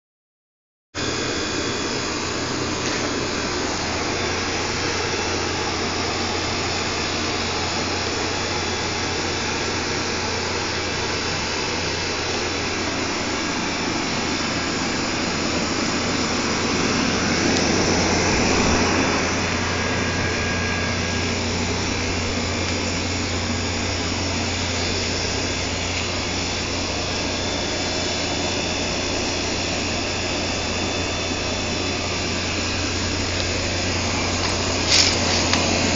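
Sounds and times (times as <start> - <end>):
mechanical running hum: 1.0 - 35.9.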